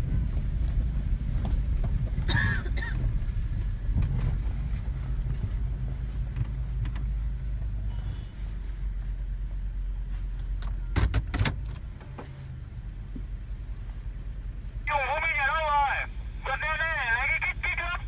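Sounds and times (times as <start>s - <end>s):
low rumble of engine and tyres: 0.0s - 18.0s.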